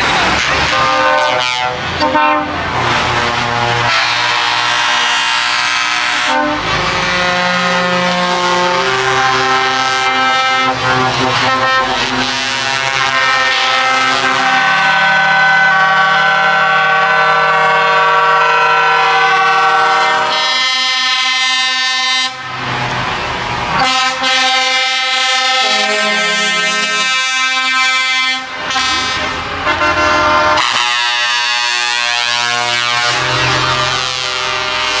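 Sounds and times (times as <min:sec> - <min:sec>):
truck air horns chords: 0:00.0 - 0:35.0.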